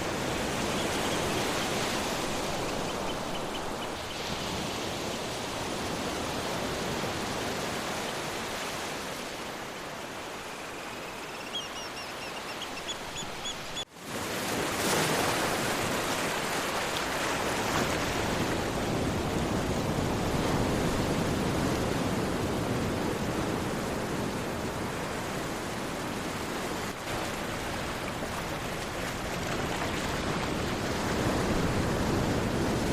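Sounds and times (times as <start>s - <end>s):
sea waves washing on shore: 0.0s - 32.9s.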